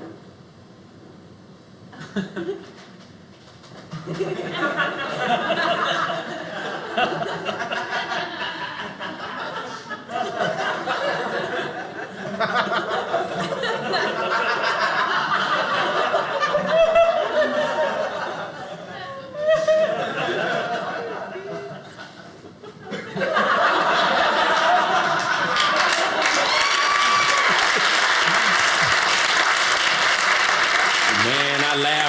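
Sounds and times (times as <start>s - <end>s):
audience laughing: 4.0s - 32.0s.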